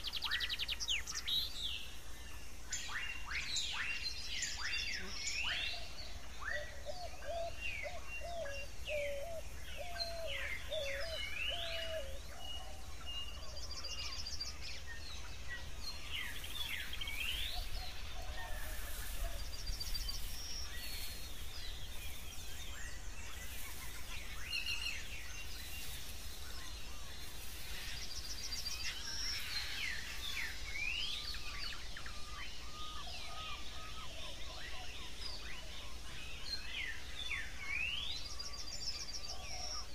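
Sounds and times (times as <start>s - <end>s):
birds chirping and calling: 2.7s - 39.9s.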